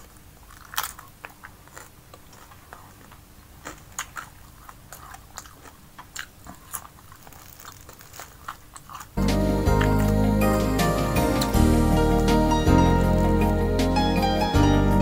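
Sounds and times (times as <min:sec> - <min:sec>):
person chewing and biting food: 0:00.0 - 0:13.8.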